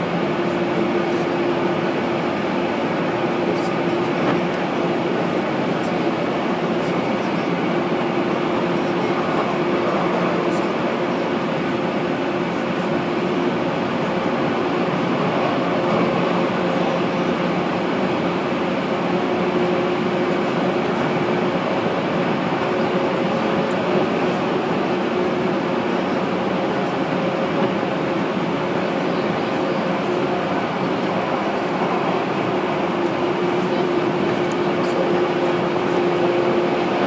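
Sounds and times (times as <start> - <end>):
train running rumble: 0.0 - 37.0.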